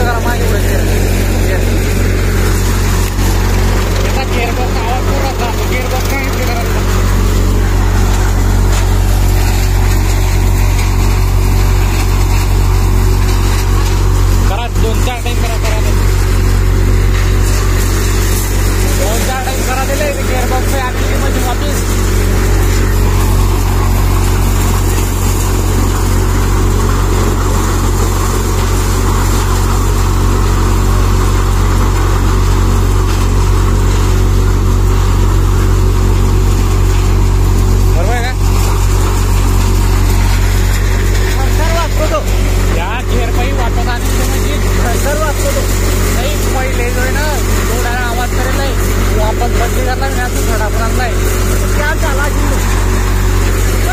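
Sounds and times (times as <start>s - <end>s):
churning clatter: 0.0s - 53.9s
thresher machine humming: 0.0s - 53.9s.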